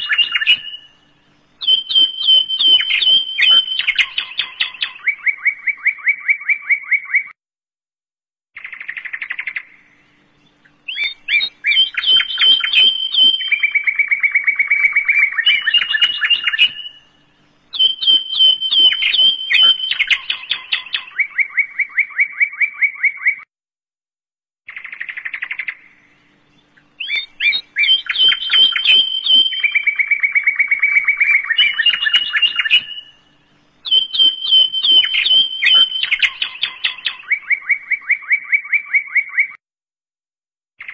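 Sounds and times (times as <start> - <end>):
bird-like chirping trills: 0.0 - 7.4, 8.6 - 23.5, 24.7 - 39.6.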